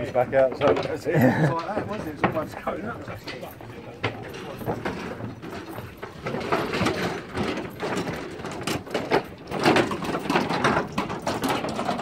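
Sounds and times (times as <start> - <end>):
footsteps on wooden boards: 0.0 - 12.0.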